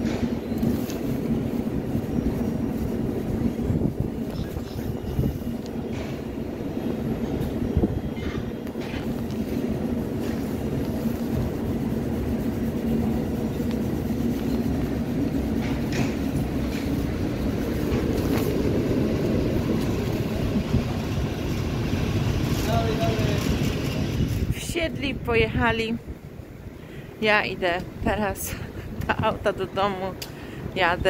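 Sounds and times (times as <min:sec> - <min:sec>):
train carriages rumbling past: 0:00.0 - 0:31.0.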